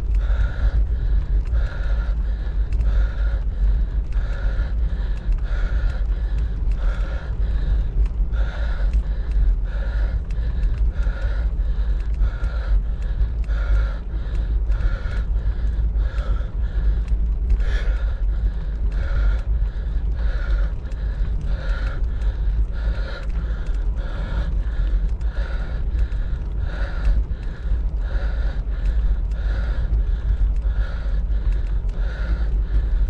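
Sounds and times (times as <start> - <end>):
person breathing hard: 0.0 - 33.0
wind rumble on microphone: 0.0 - 33.0.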